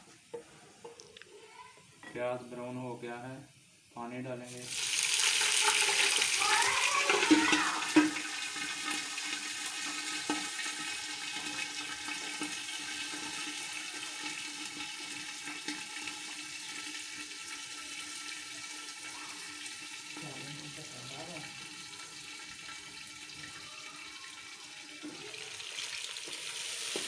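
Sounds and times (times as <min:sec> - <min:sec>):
water hissing in hot oil: 0:02.6 - 0:27.0
bubbling simmer: 0:04.6 - 0:27.0.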